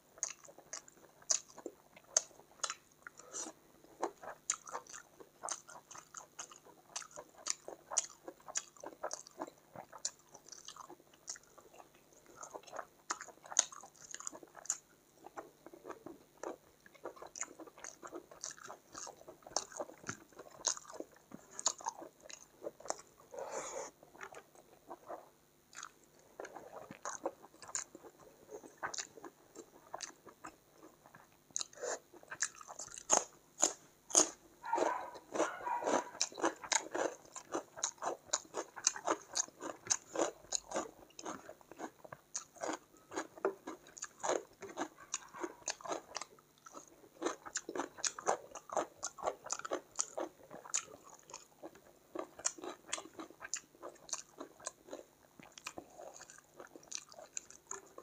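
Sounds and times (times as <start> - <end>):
person chewing wet mouth sounds: 0.2 - 58.0.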